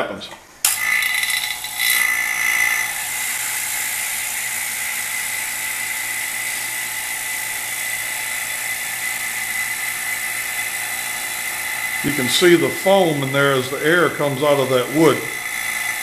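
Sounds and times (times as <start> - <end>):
vacuum pump whining: 0.6 - 16.0.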